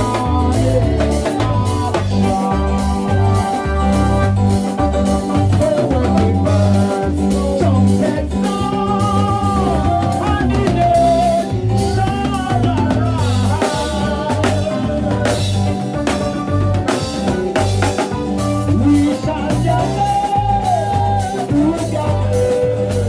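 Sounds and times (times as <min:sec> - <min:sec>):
gliding melodic line: 0:00.0 - 0:22.8
drum kit: 0:00.0 - 0:23.0
electric bass guitar line: 0:00.0 - 0:23.0.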